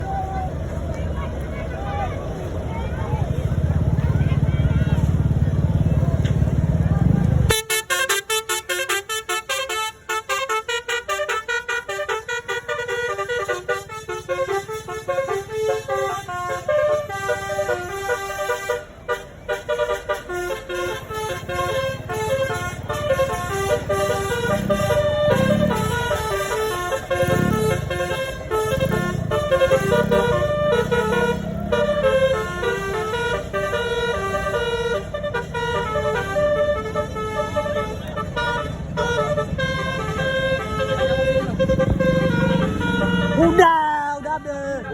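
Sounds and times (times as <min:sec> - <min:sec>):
low engine hum: 0:00.0 - 0:07.5, 0:11.5 - 0:44.9
bus horn playing a melody: 0:07.4 - 0:44.9.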